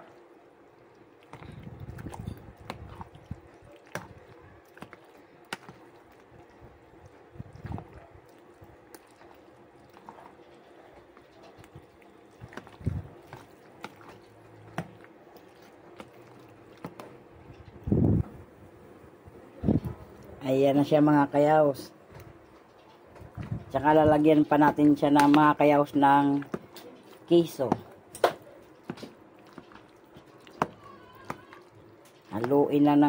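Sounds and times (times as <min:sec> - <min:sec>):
wet squelching of stirred salad: 0:00.0 - 0:33.0.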